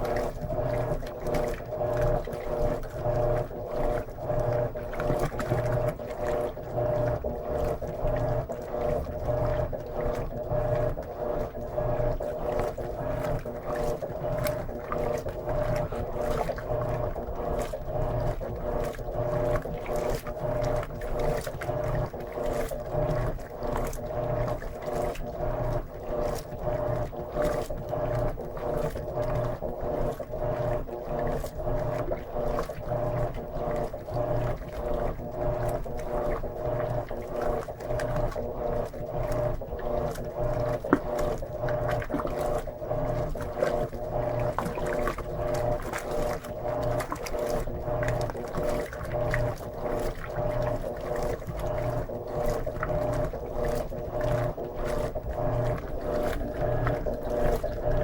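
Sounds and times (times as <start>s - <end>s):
washing machine motor hum: 0.0s - 58.0s
water sloshing in tub: 0.0s - 58.0s.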